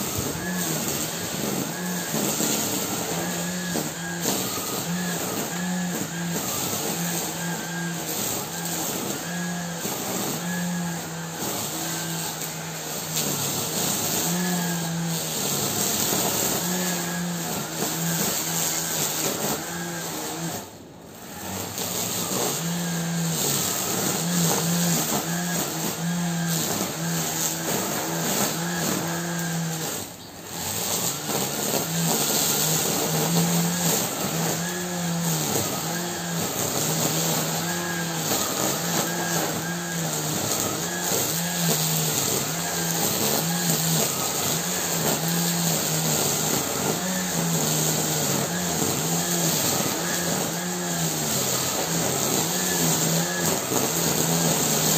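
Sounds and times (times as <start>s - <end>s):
grass trimmer cutting grass: 0.0s - 54.9s.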